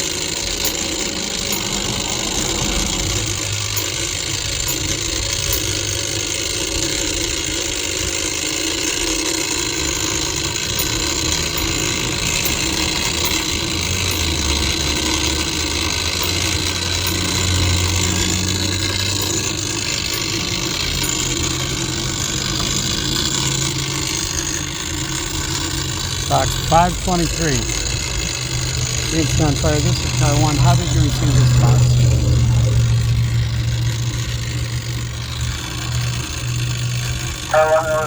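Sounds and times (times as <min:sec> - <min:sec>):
low engine hum: 0:00.0 - 0:06.8, 0:09.8 - 0:38.0
clockwork ticking: 0:00.0 - 0:38.0.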